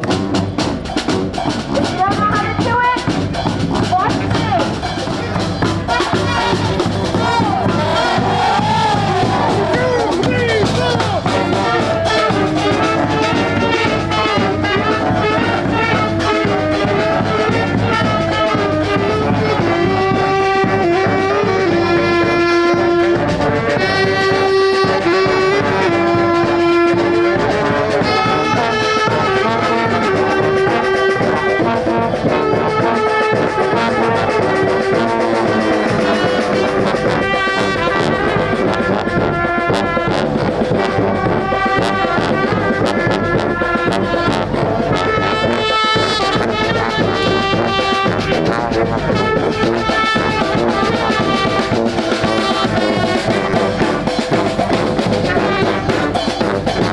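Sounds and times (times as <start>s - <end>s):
brass band playing: 0.0s - 56.9s.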